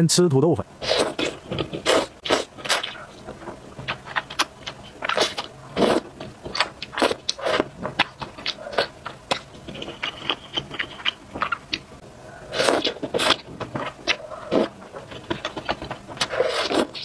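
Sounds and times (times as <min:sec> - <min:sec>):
slurping and chewing noodles: 0:00.8 - 0:17.0.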